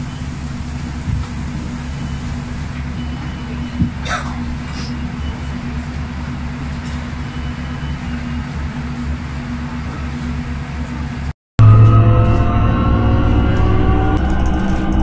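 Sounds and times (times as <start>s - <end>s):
bus engine hum: 0.0s - 15.0s.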